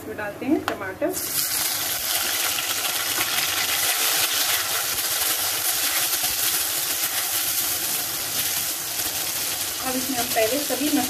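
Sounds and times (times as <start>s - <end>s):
vegetables sizzling in hot oil: 1.2s - 11.0s.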